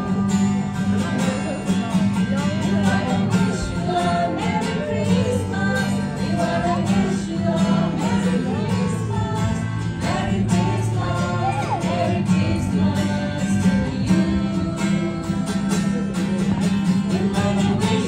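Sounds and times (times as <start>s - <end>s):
group of people singing: 0.0s - 18.0s
strummed acoustic guitar: 0.0s - 18.0s.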